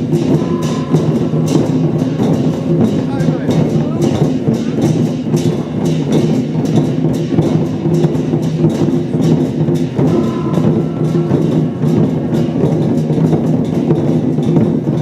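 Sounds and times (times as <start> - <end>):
percussion band drum gongs cymbals: 0.0 - 15.0.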